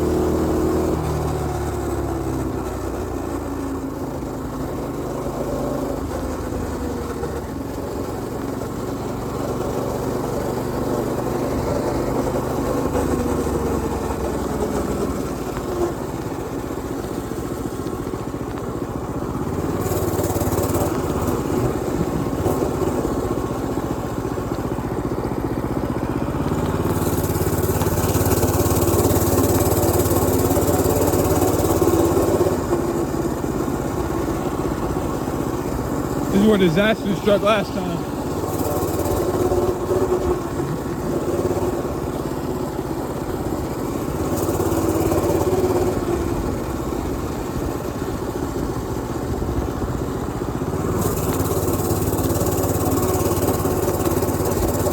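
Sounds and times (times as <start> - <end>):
mini bike engine running: 0.0 - 54.9.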